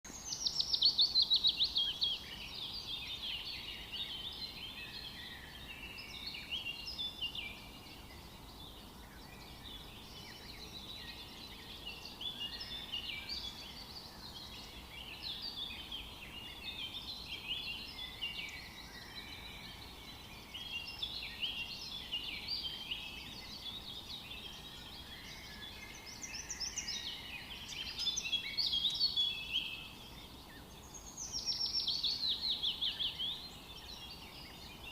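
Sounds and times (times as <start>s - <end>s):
small birds chirping and trilling: 0.1s - 34.9s.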